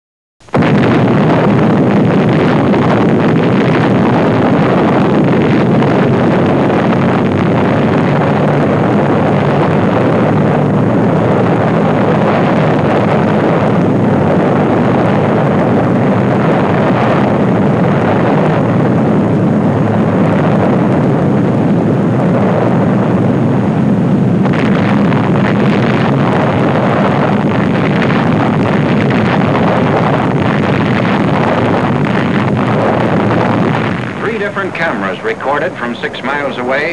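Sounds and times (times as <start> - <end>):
explosion roar and rumble: 0.4 - 36.9.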